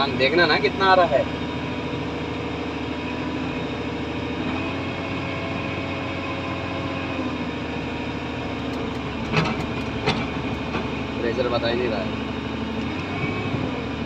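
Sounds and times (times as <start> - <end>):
excavator engine running: 0.0 - 14.0
hydraulic pump whine: 0.0 - 14.0.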